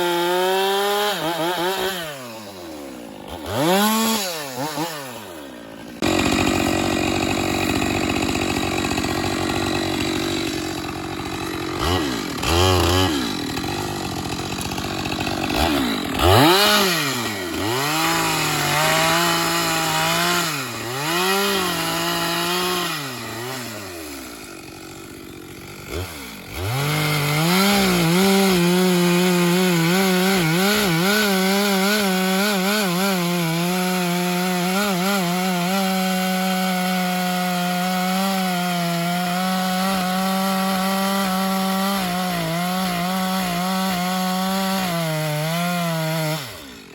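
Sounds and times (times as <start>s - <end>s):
chainsaw cutting wood: 0.0s - 46.9s
chainsaw revving: 0.0s - 46.9s.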